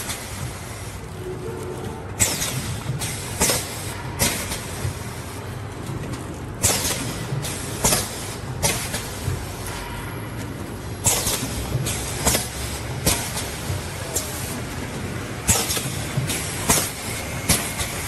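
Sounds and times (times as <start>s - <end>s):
pneumatic press hisses and clacks: 0.0s - 0.9s, 2.2s - 18.0s.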